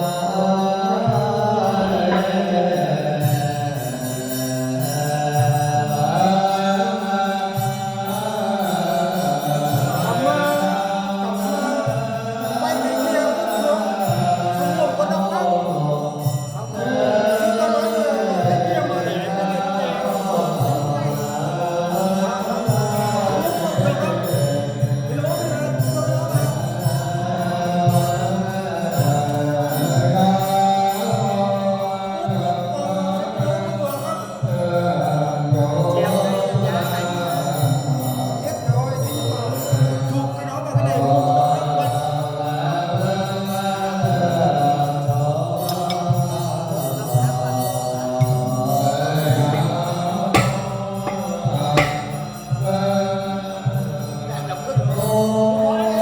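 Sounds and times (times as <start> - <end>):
voices chanting: 0.0 - 56.0.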